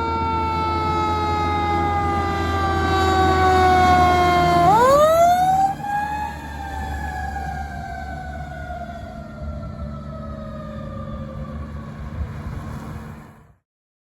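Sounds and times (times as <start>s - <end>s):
fire truck siren wailing: 0.0s - 13.4s
low engine rumble: 0.0s - 13.6s.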